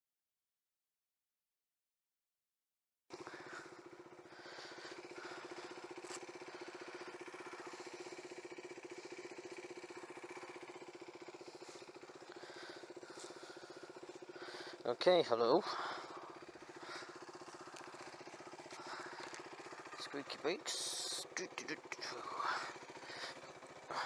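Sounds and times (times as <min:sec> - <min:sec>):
motorcycle engine idling: 0:03.1 - 0:24.0.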